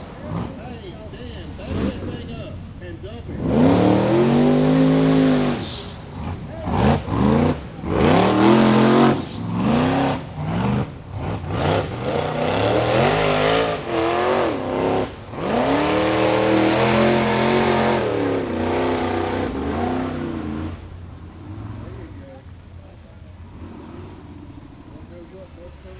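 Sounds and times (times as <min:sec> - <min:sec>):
buggy engine revving: 0:00.0 - 0:25.9.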